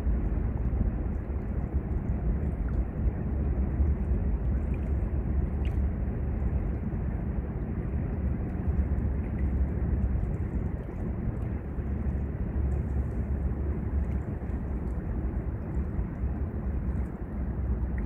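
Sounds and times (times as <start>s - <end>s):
low riverside rumble: 0.0s - 18.0s.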